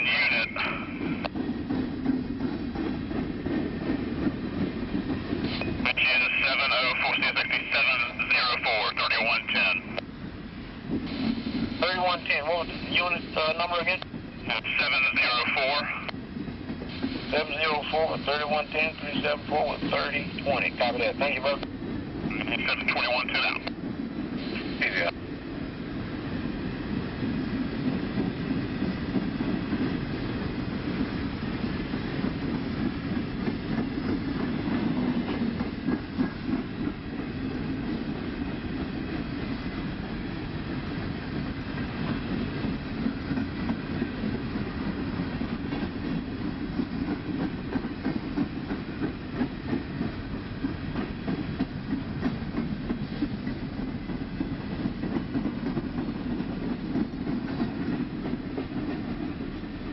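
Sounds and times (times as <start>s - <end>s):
freight train rumble: 0.0s - 59.9s.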